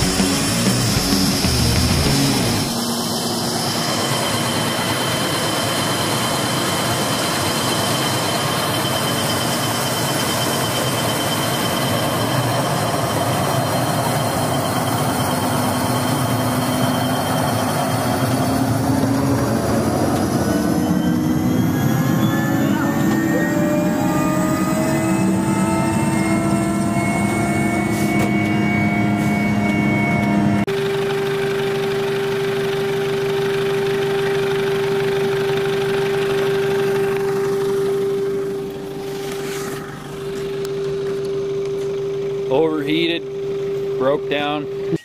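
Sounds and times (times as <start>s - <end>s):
high turbine whine rising: 0.0s - 44.4s
helicopter turbines and rotor: 0.0s - 45.0s.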